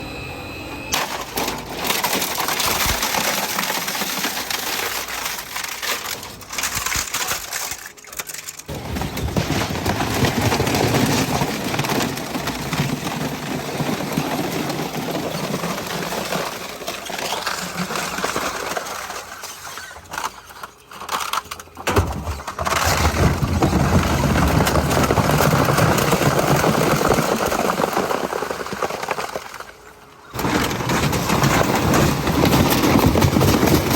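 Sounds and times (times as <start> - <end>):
industrial shredder grinding metal: 0.0 - 26.7, 30.2 - 33.9.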